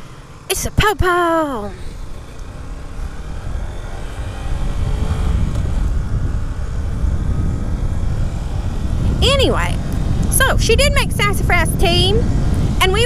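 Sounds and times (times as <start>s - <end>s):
motorcycle engine: 0.0s - 13.0s
wind rumble on microphone: 0.0s - 13.0s.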